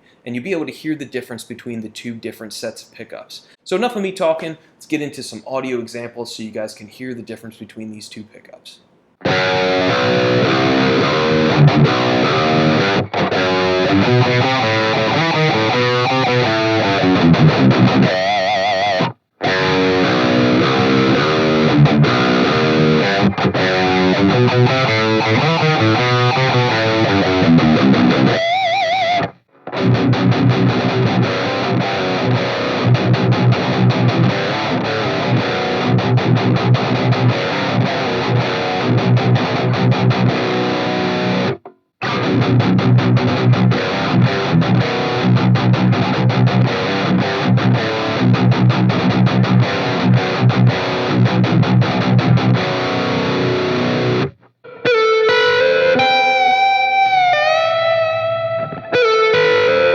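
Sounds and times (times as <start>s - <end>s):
distorted electric guitar riff: 9.2s - 59.9s.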